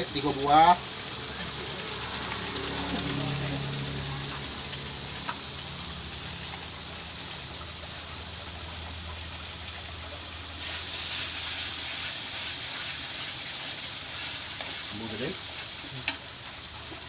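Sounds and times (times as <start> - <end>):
spice paste sizzling in oil: 3.3 - 17.0.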